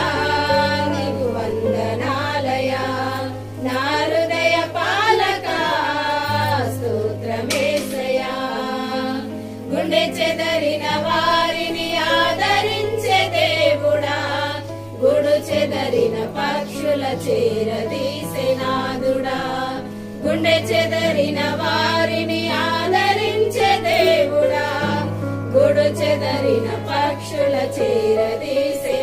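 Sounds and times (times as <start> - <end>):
women singing a hymn in unison: 0.0 - 29.0.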